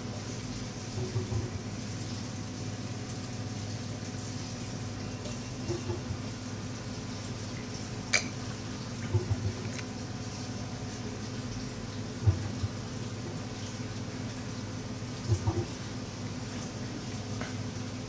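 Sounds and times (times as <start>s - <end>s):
aquarium pump hum: 0.0s - 18.0s
water trickling and bubbling: 0.0s - 18.0s.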